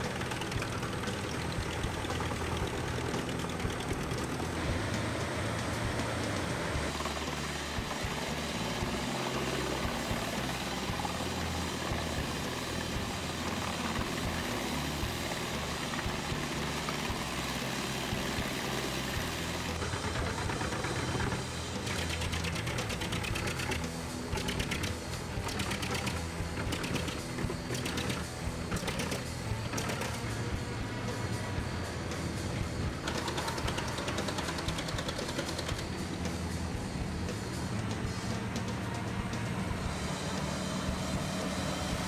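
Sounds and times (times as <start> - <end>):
wood chipper chipping logs: 0.0 - 30.7, 31.7 - 42.0
background music: 0.0 - 42.0.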